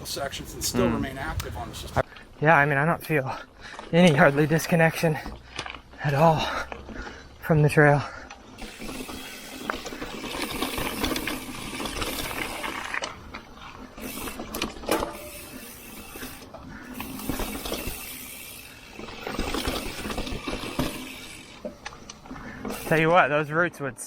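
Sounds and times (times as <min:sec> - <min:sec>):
bike tyres rolling on dirt trail: 0:00.0 - 0:24.0
bike knocking and rattling: 0:01.4 - 0:23.4.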